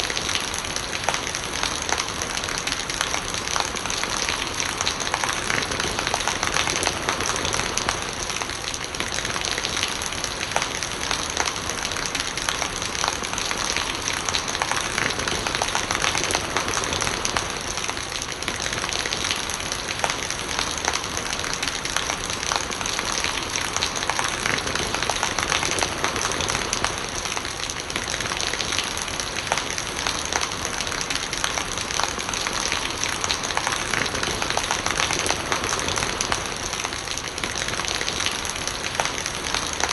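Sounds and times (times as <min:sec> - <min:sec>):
raindrops pattering on surfaces: 0:00.0 - 0:39.9
steady rain: 0:00.0 - 0:39.9.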